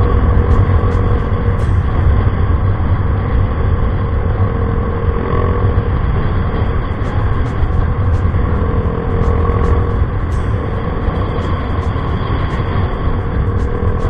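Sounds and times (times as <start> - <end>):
faint steady tone: 0.0 - 14.0
scooter engine rumbling: 0.0 - 14.0
wind on microphone: 0.0 - 14.0.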